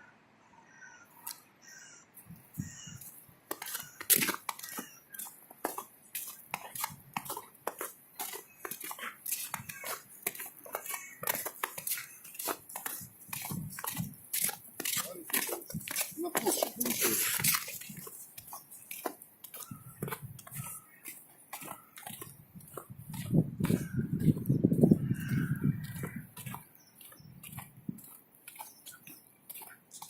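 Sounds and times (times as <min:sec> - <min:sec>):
footsteps on crunchy surface: 0:02.2 - 0:30.0.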